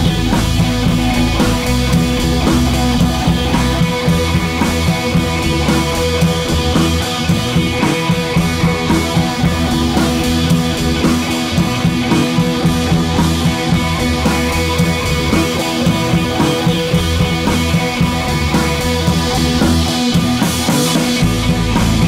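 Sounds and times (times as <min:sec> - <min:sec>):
guitar music: 0:00.0 - 0:22.0
steady drum beat: 0:00.0 - 0:22.0.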